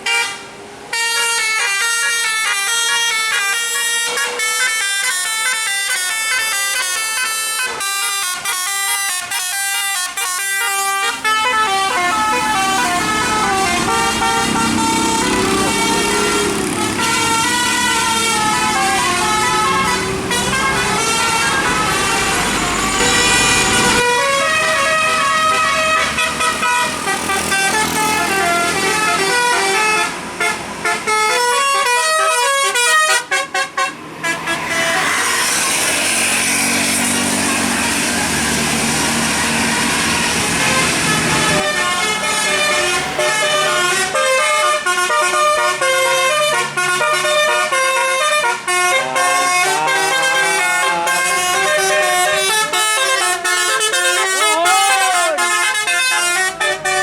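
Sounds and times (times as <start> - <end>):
bus engine rumble: 0.0 - 57.0
musical air horn tune: 0.1 - 57.0.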